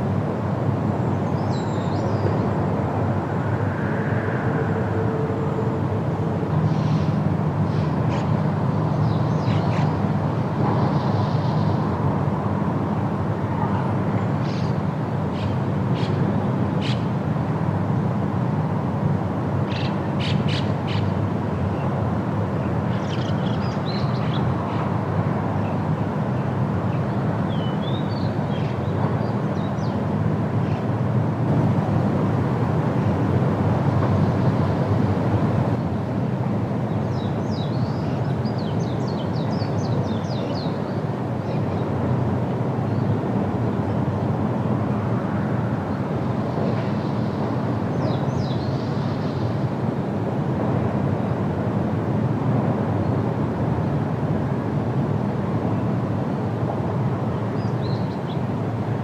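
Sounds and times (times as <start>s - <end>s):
wind through forest: 0.0s - 59.0s.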